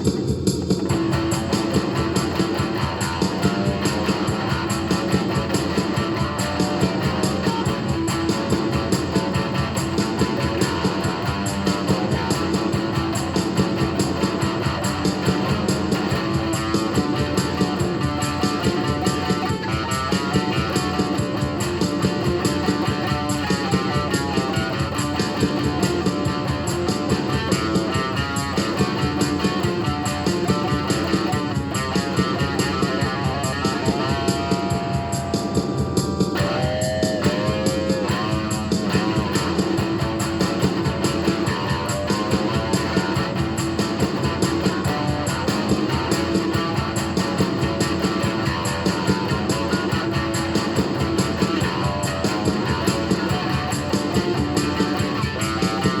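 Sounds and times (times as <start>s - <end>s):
rock music with guitar: 0.0s - 56.0s.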